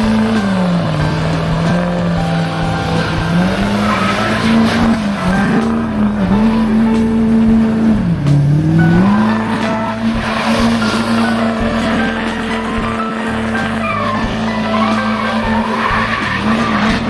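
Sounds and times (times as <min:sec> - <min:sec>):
car engine at high revs: 0:00.0 - 0:17.0
tyre squeal: 0:00.0 - 0:17.0.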